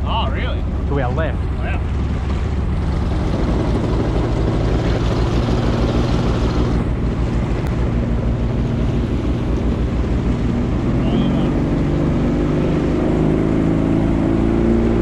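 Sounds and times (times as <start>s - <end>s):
outboard motor running: 0.0s - 15.0s
water rushing past hull: 0.0s - 15.0s.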